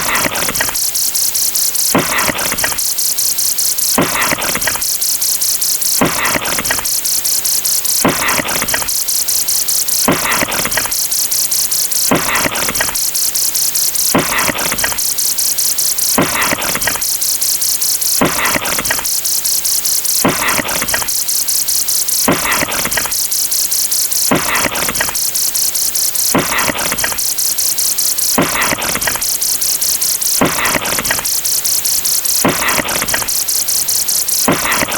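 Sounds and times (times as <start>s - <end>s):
high-pitched rattling hiss of ticks: 0.0s - 34.9s.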